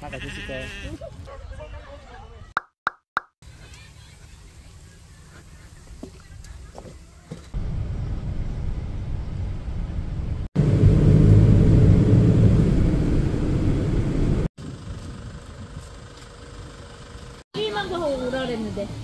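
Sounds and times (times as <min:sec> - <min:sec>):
van engine and road rumble: 0:03.4 - 0:19.0.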